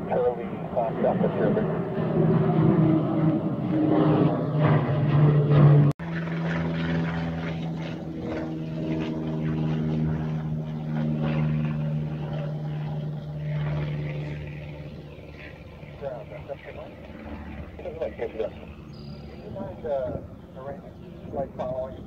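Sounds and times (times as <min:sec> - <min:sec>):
helicopter engine and rotor drone: 0:00.0 - 0:22.0
wind rumbling on microphone: 0:00.0 - 0:22.0.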